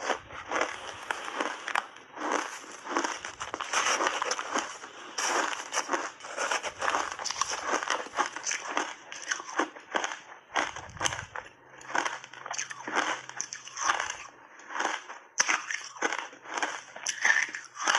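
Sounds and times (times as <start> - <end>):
ice crunching while chewed: 0.0 - 17.9.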